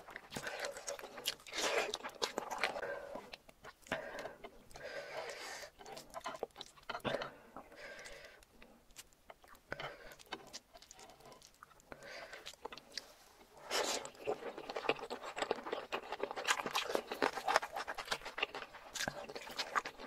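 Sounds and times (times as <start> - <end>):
wet chewing and biting: 0.0 - 7.2, 8.0 - 13.1, 13.7 - 20.0.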